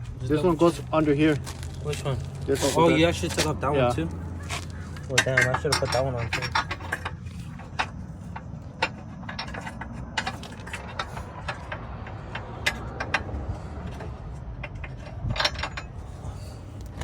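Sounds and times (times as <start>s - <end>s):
hand tools clinking on metal: 0.3s - 17.0s.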